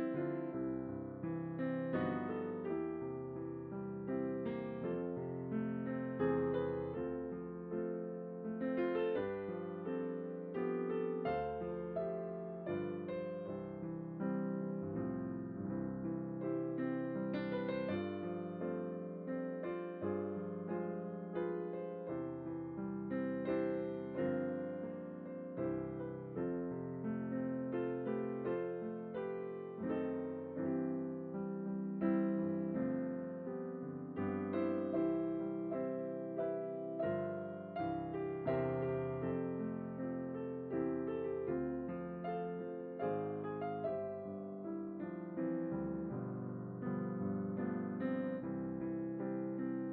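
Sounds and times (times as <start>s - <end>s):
gentle piano music: 0.0s - 49.9s.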